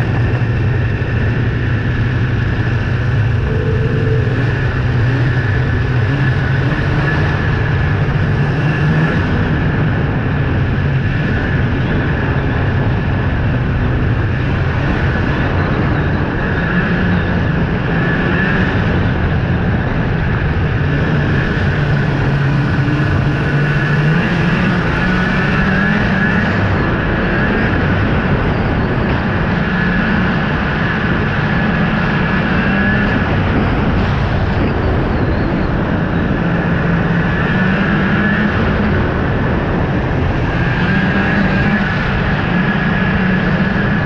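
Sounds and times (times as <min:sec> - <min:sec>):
snowmobile engine running: 0:00.0 - 0:44.0
steady high whine: 0:00.0 - 0:44.0.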